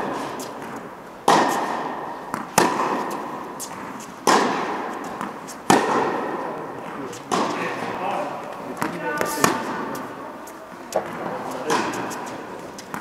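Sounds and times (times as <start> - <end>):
tennis ball bouncing on court: 0.0 - 8.0, 8.7 - 13.0
tennis ball struck by racket: 0.0 - 8.0, 8.8 - 13.0.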